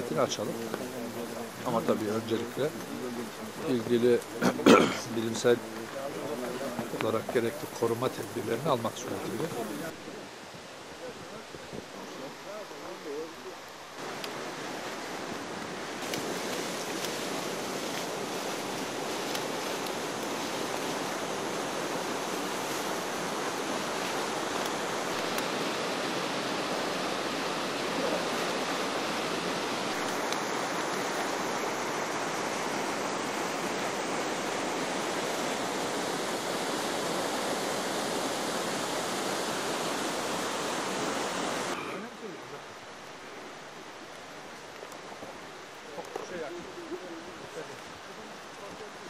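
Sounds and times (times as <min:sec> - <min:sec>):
steady outdoor rushing noise: 0:00.0 - 0:49.0.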